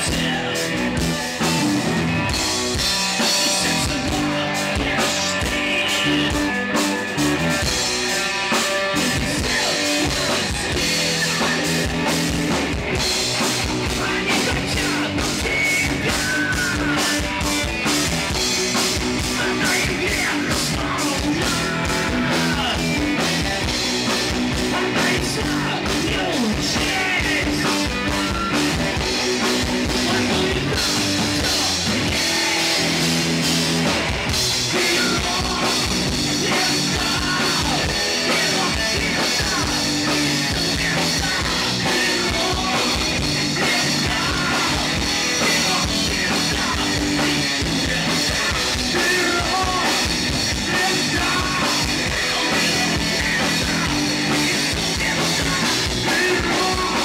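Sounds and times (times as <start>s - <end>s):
drum kit: 0.0s - 57.0s
electric guitar: 0.0s - 57.0s
person singing: 0.0s - 57.0s.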